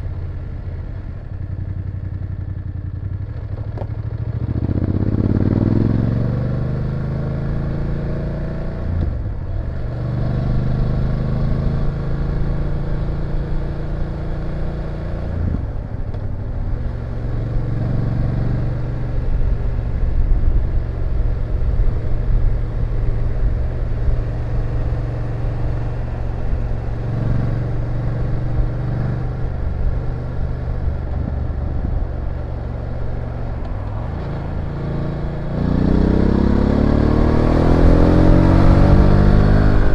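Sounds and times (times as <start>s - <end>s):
motorcycle engine running: 0.0s - 7.5s, 11.4s - 39.9s
wind and road noise: 0.0s - 39.9s.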